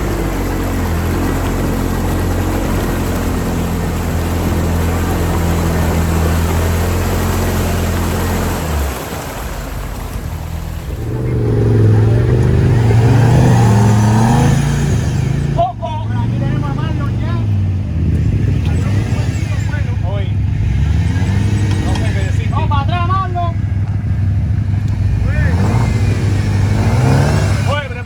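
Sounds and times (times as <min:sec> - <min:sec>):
off-road vehicle engine revving: 0:00.0 - 0:28.0
water splashing: 0:00.0 - 0:28.0.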